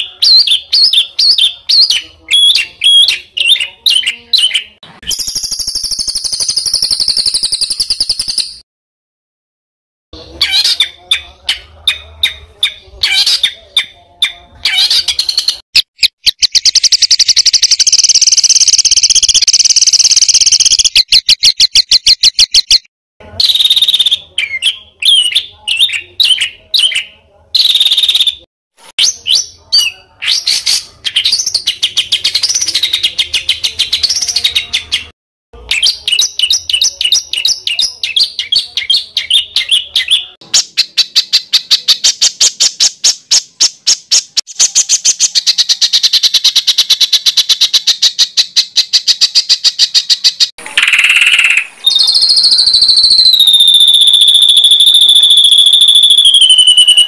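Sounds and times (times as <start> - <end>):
songbird singing: 0.0 - 8.6, 10.2 - 28.4, 29.0 - 57.0.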